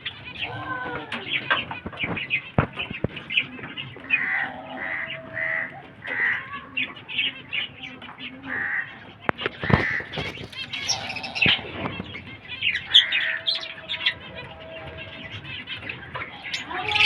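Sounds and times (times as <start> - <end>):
lovebirds chirping and squawking: 0.0 - 17.0.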